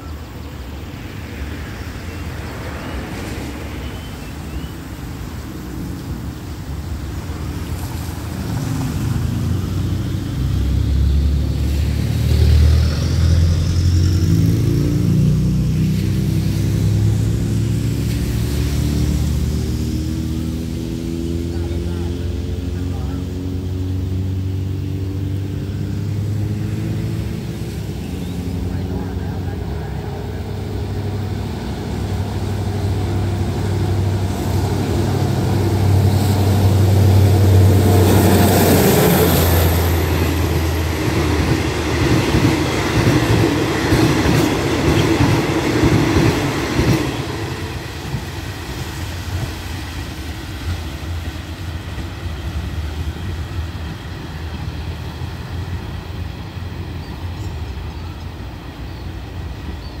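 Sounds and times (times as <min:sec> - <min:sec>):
diesel locomotive engine hum: 0:00.0 - 1:00.0.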